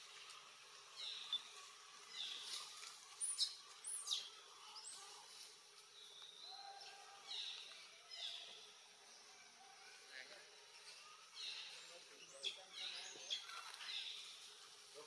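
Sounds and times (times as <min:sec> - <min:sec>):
birds chirping: 0:00.0 - 0:14.9
steady outdoor hiss: 0:00.0 - 0:15.0.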